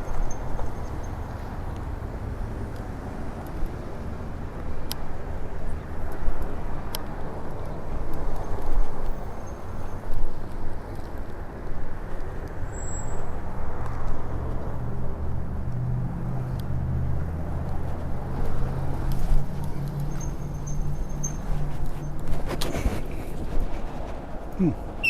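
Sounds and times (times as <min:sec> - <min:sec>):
road and traffic noise: 0:00.0 - 0:25.0.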